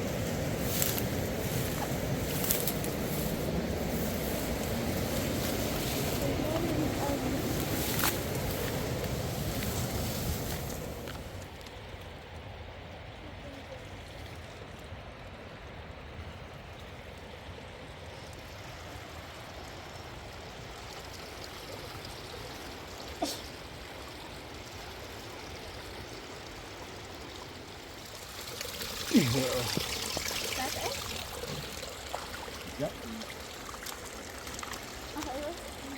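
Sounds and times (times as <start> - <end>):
river water flowing: 0.0 - 35.9.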